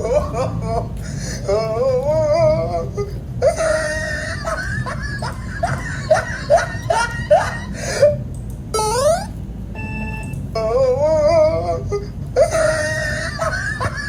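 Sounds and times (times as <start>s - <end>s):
high wavering voice-like wail: 0.0s - 9.4s, 10.0s - 14.0s
steady low hum: 0.0s - 14.0s.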